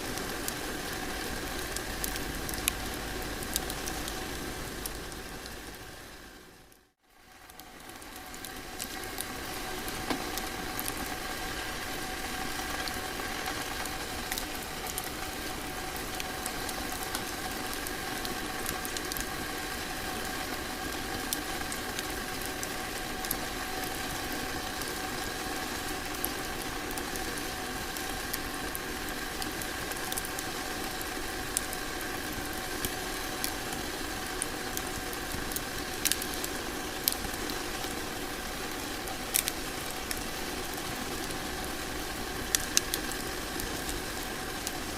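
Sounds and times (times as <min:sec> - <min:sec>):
faint steady hum: 0:00.0 - 0:44.9
fireplace fire crackling: 0:00.0 - 0:44.9.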